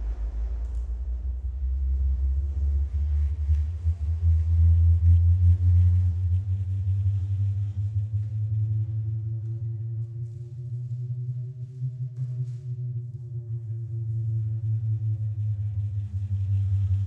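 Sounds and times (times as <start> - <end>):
deep sub-bass hum sweeping upward: 0.0 - 17.0.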